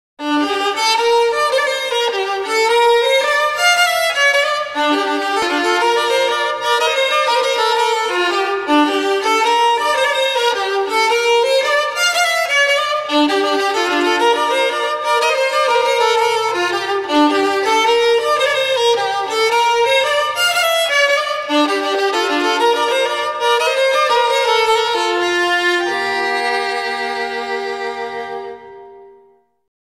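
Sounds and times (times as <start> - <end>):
instrumental music with quick notes: 0.2 - 29.4.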